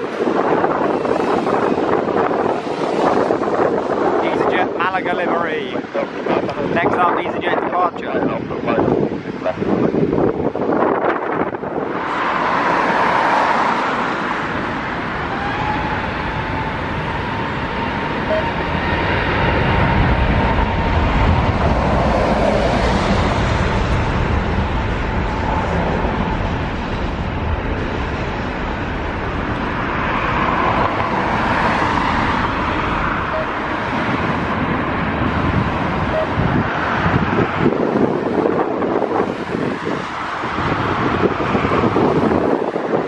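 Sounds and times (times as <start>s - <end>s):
jet airliner engine noise: 0.0s - 43.0s
wind buffeting microphone: 0.0s - 43.0s.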